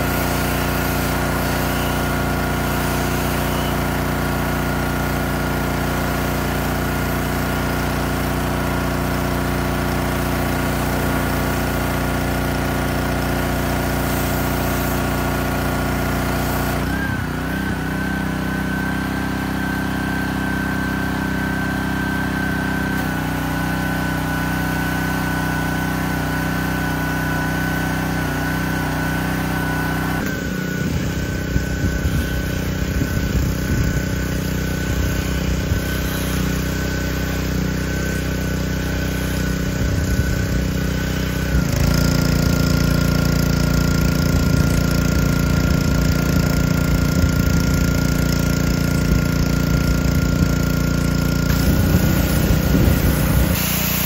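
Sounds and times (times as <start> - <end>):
pressure washer engine running: 0.0 - 54.0
water spraying on siding: 0.0 - 54.0.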